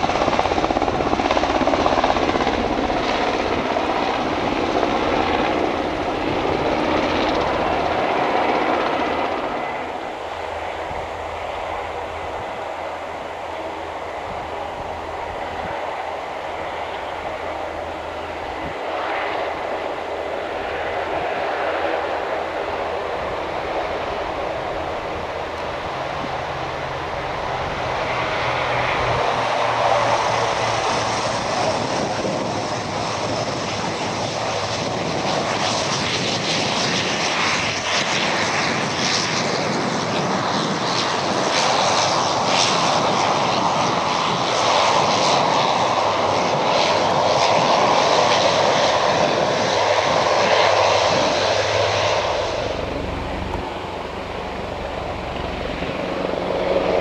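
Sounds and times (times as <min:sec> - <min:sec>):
helicopter rotor and turbine: 0:00.0 - 0:57.0
turboprop engines running: 0:00.0 - 0:57.0.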